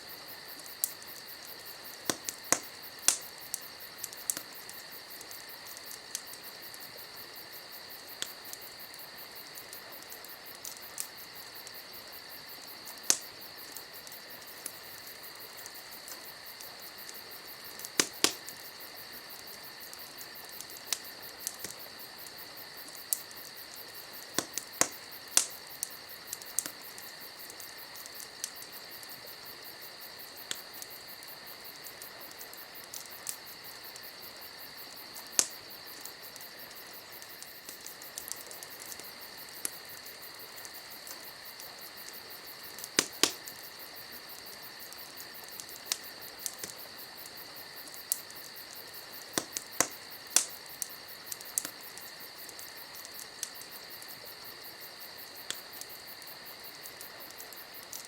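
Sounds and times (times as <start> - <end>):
crickets chirping: 0.0 - 58.0
campfire crackling and popping: 0.1 - 58.0.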